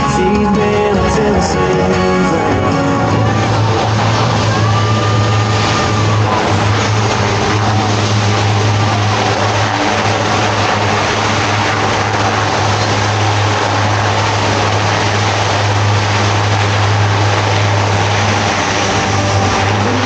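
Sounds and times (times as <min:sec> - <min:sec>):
turboprop aircraft propeller hum: 0:00.0 - 0:20.0.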